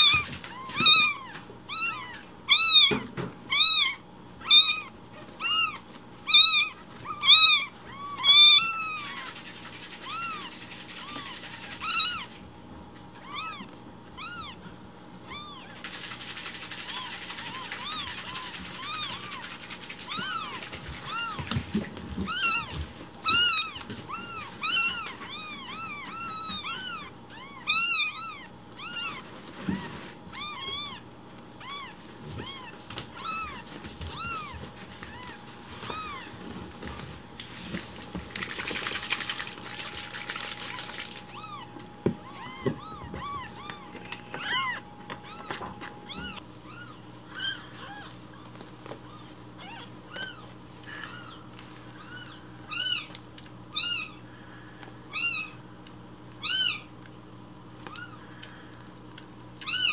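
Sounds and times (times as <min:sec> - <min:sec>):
newborn kittens mewing: 0:00.0 - 0:12.4, 0:13.1 - 0:16.0, 0:16.6 - 0:36.4, 0:40.6 - 0:54.3, 0:55.0 - 0:55.6, 0:56.4 - 0:57.0, 0:59.6 - 0:59.9.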